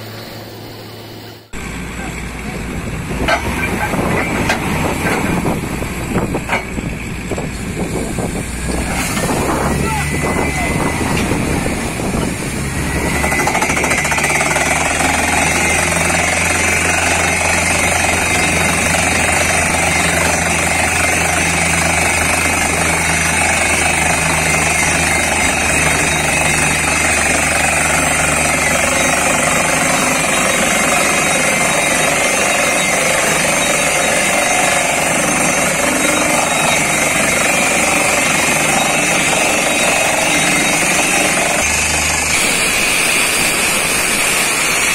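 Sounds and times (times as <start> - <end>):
low engine drone: 0.0 - 44.9
drill hammering clatter: 3.2 - 44.9.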